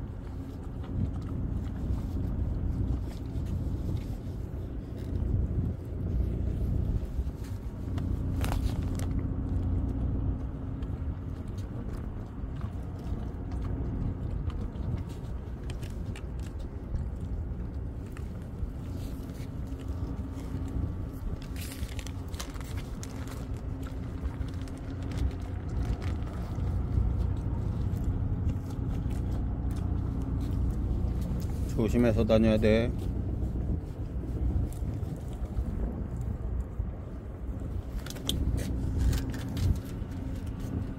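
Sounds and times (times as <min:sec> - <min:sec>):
dog chewing and licking: 0:00.0 - 0:40.9
faint hum: 0:00.0 - 0:40.9
low rumble: 0:00.0 - 0:40.9.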